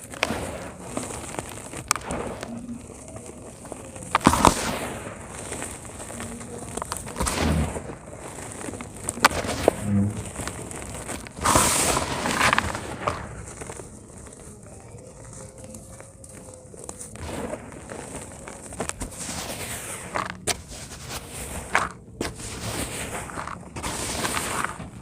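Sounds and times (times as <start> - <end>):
cement chunks crumbling: 0.0 - 25.0.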